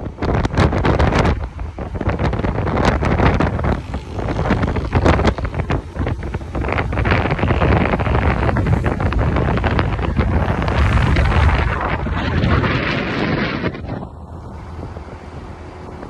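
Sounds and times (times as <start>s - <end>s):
motorcycle running: 0.0s - 16.0s
road noise: 0.0s - 16.0s
wind buffeting microphone: 0.0s - 16.0s.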